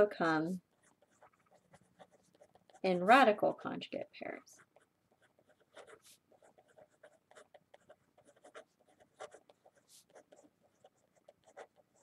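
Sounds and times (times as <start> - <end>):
pen scratching on paper: 0.0 - 3.4, 4.4 - 12.0.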